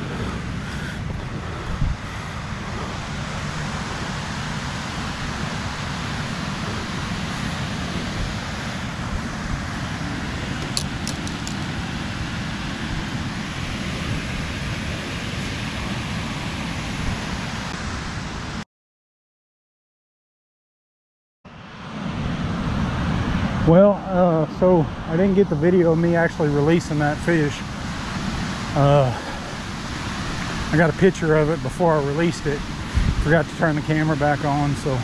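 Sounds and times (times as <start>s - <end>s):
water rushing through spillway: 0.0s - 18.0s, 23.2s - 35.0s.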